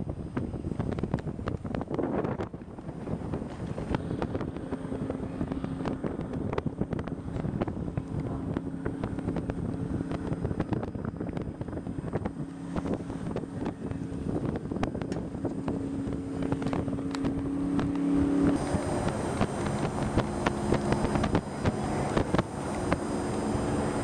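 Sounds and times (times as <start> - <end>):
boat engine hum: 0.0 - 24.0
wind buffeting microphone: 0.0 - 24.0.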